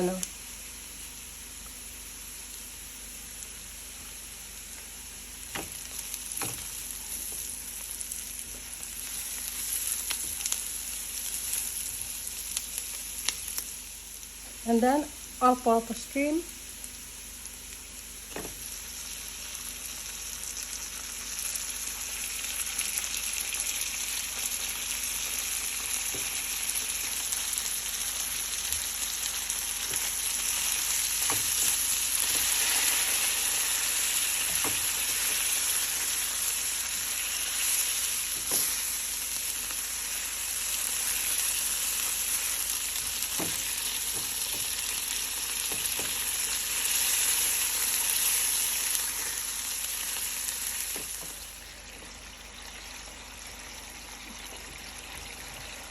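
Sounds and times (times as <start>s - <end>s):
sauce sizzling in a frying pan: 0.0s - 55.9s.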